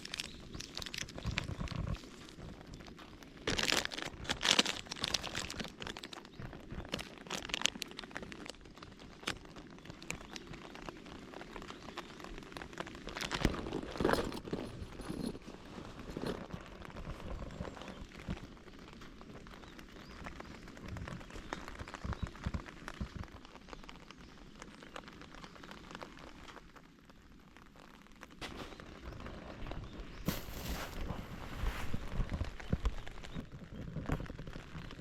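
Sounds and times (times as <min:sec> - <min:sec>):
plastic snack packet crinkling: 0:00.0 - 0:28.4, 0:30.2 - 0:35.0.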